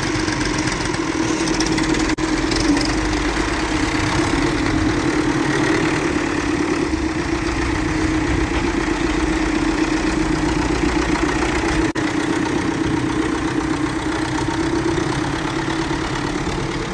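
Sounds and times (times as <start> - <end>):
diesel tractor engine idling: 0.0 - 16.9.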